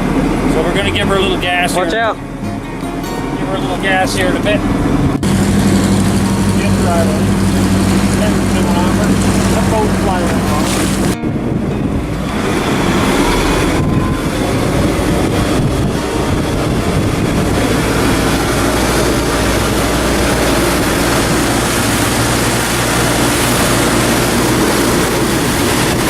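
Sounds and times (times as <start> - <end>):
boat engine running: 0.0 - 26.0
rushing wind and water: 0.0 - 26.0.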